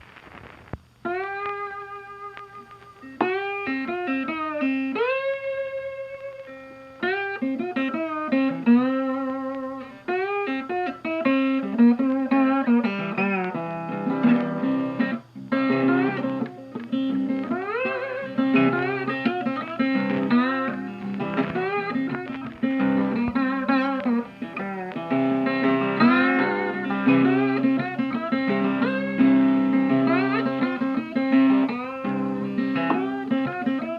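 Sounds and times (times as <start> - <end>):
guitar with sliding notes: 0.4 - 33.9.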